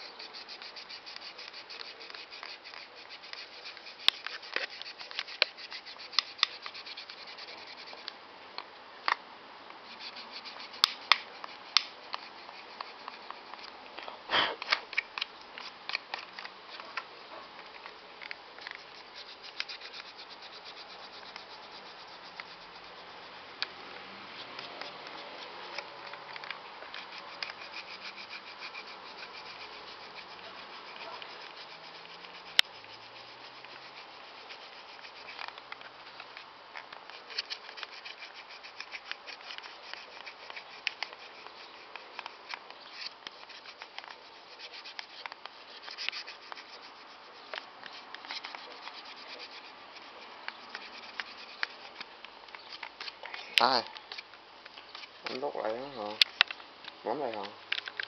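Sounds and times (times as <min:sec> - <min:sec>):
eraser rubbing on plastic: 0:00.0 - 0:08.1, 0:09.8 - 0:13.7, 0:18.6 - 0:54.3.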